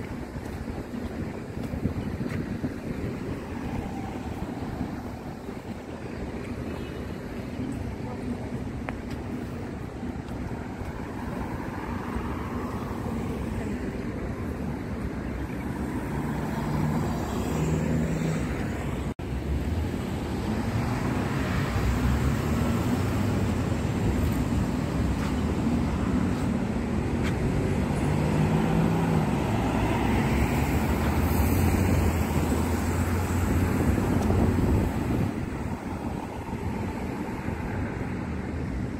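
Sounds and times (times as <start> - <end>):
traffic rumble: 0.0 - 38.9
vehicles passing by: 0.0 - 38.9.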